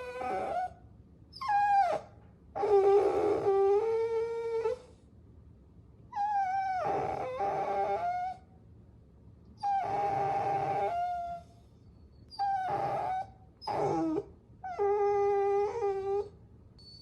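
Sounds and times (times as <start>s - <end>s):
puppies whining: 0.0s - 5.0s, 6.2s - 8.4s, 9.6s - 17.0s.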